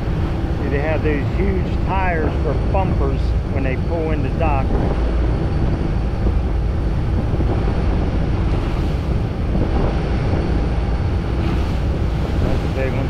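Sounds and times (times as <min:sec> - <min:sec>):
boat engine running: 0:00.0 - 0:13.0
water rushing along boat hull: 0:00.0 - 0:13.0
wave slapping hull: 0:00.0 - 0:13.0
wind buffeting microphone: 0:00.0 - 0:13.0.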